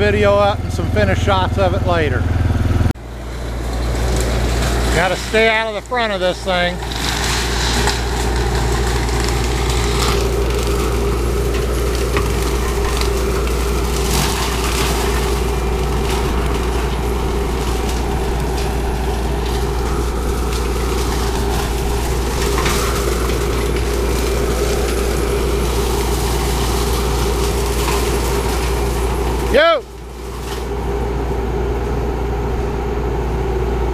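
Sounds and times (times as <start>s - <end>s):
forestry cutter whining: 0.0s - 33.9s
wood cracking: 3.0s - 31.8s.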